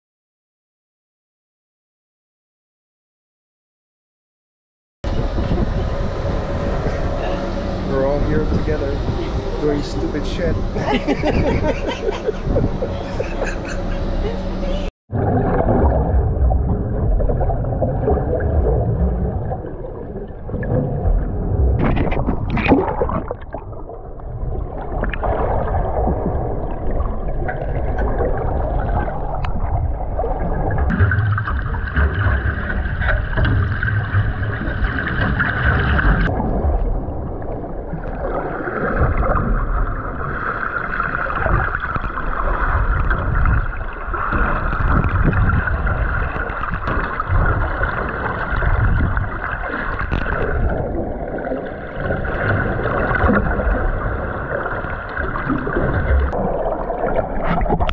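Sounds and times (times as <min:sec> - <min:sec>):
underwater rumble of moving water: 0:05.0 - 0:57.9
water gurgling: 0:05.1 - 0:57.9.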